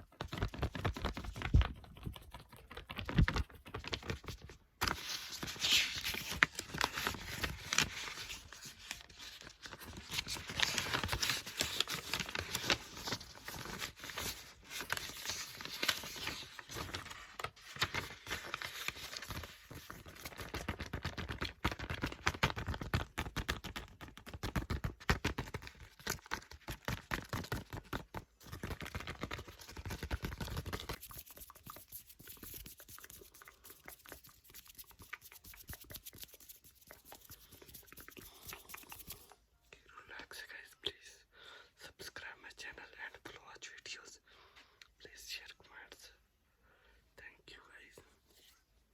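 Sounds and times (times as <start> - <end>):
book pages turning and rustling: 0.0 - 39.4.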